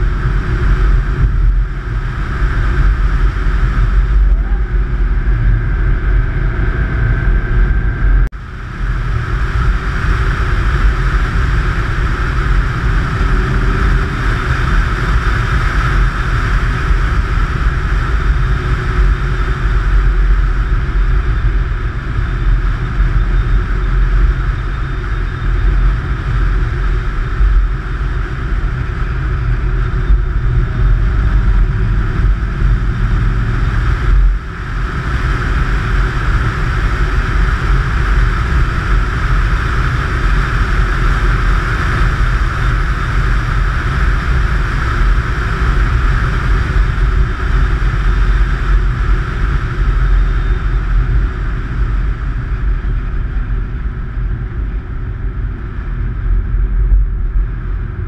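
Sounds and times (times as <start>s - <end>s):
car engine: 0.0s - 58.0s
wind rumble: 0.0s - 58.0s.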